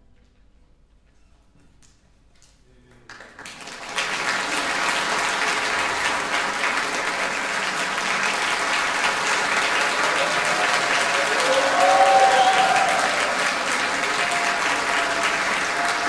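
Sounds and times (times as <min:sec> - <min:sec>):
audience applause: 0:03.1 - 0:16.0.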